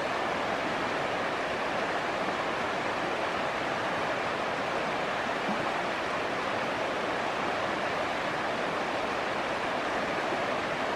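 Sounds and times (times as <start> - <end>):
river flowing over rocks: 0.0 - 10.9.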